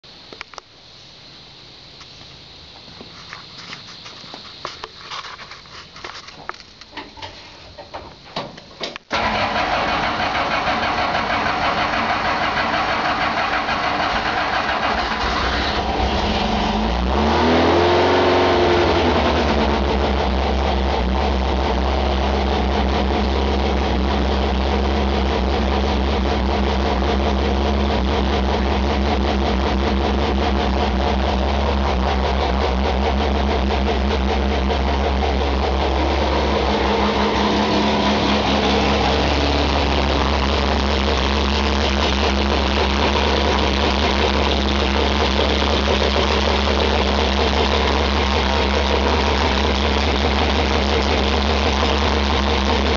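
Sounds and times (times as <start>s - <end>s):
engine starting and idling: 7.0s - 52.9s.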